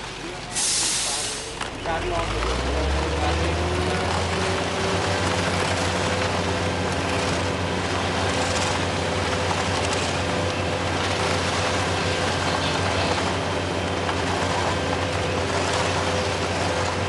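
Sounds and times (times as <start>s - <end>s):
heavy engine running steadily: 0.0s - 17.0s.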